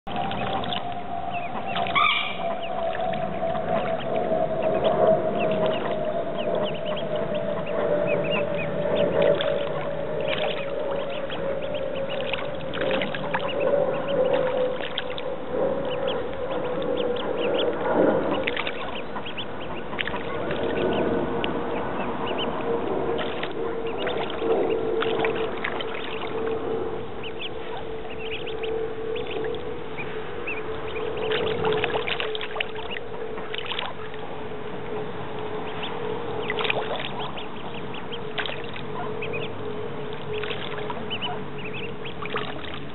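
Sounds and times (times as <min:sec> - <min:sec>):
ducklings splashing in water: 0:00.0 - 0:42.9
steady background hum: 0:00.0 - 0:42.9
ducklings peeping: 0:00.1 - 0:42.9.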